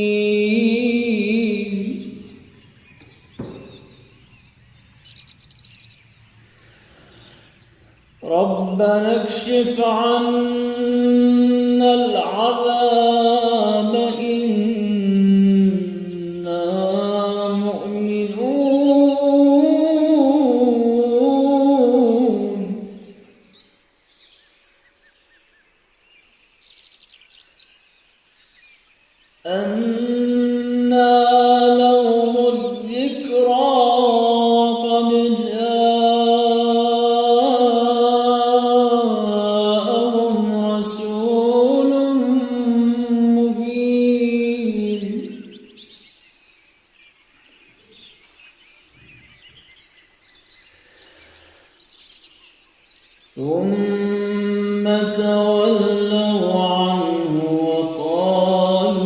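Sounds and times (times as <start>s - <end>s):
faint birds chirping: 0.0s - 59.0s.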